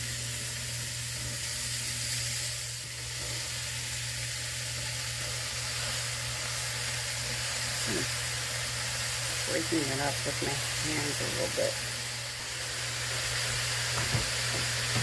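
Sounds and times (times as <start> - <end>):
meat and vegetables sizzling in oil: 0.0 - 15.0.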